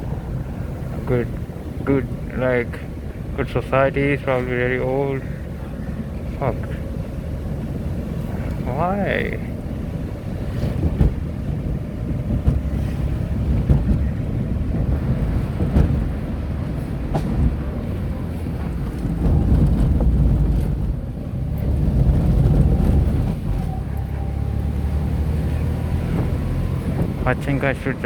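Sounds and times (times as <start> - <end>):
car engine and road noise: 0.0 - 28.0
wind buffeting microphone: 0.0 - 28.0.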